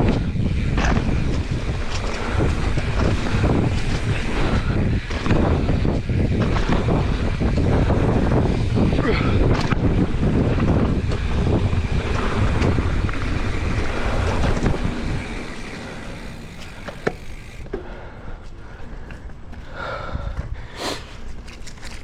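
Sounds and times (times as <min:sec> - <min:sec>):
bike rolling on dirt: 0:00.0 - 0:22.0
wind buffeting microphone: 0:00.0 - 0:22.0.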